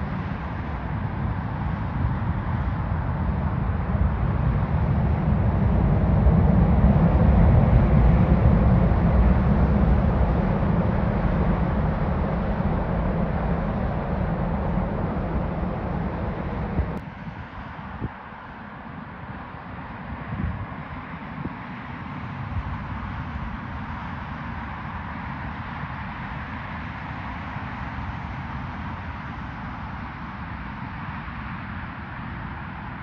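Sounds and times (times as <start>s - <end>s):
jet airliner engines rumbling: 0.0s - 33.0s.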